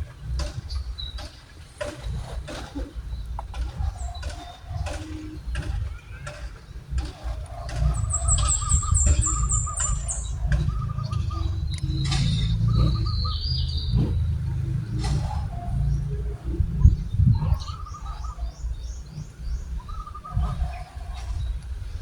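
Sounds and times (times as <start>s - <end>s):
lower bird chirping notes: 0.0s - 22.0s
steady low rumble: 0.0s - 22.0s
high bird chirps: 3.1s - 21.6s.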